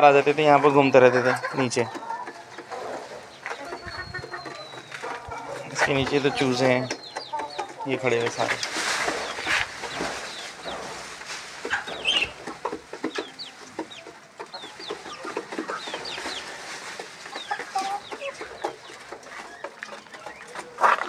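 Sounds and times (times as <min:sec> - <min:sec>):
chickens clucking: 0:00.0 - 0:21.0
chicks peeping: 0:00.0 - 0:21.0.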